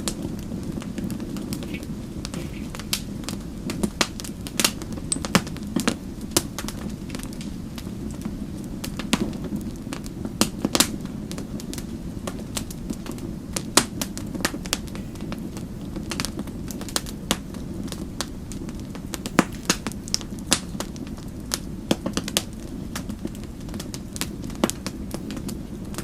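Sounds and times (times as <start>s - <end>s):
loud fire pops: 0.0s - 26.0s
wood fire crackling: 0.0s - 26.0s.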